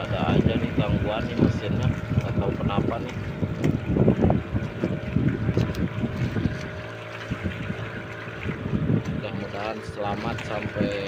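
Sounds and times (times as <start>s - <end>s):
boat engine droning: 0.0s - 11.0s
wind buffeting microphone: 0.0s - 11.0s.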